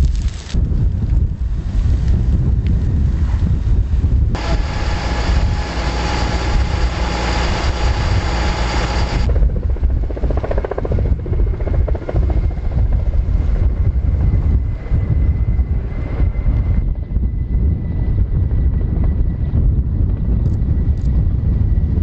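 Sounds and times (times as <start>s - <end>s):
wind rumble on microphone: 0.0s - 22.0s
helicopter rotor beat: 0.8s - 22.0s.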